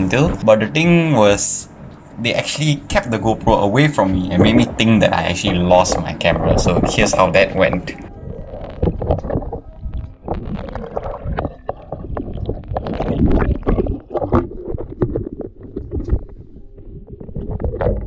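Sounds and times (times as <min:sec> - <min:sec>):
water sloshing and splashing: 0:01.7 - 0:18.0
muffled underwater gurgles: 0:02.2 - 0:18.0.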